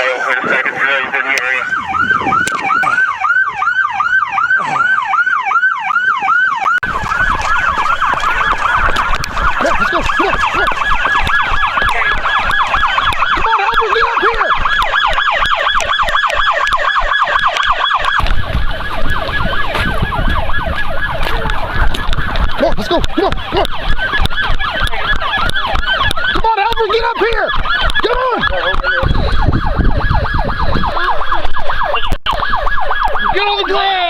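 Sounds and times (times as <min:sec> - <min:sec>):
police siren yelping: 0:00.0 - 0:34.0.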